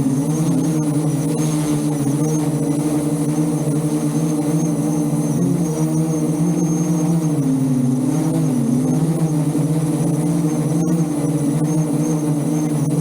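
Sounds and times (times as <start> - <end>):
drone motors and propellers humming: 0.0 - 13.0.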